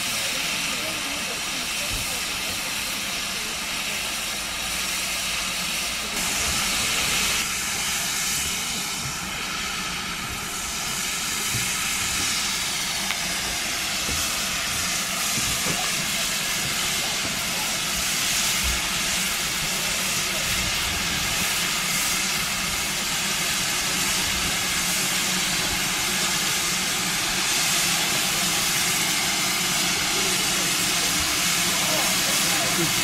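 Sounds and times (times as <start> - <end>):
steam locomotive hissing steam: 0.0 - 33.0.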